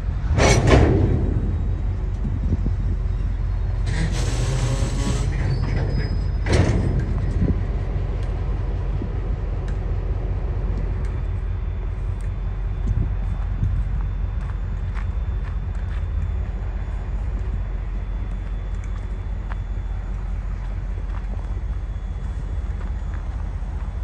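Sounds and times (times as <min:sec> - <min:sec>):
freight wagons rumbling on rails: 0:00.0 - 0:24.0.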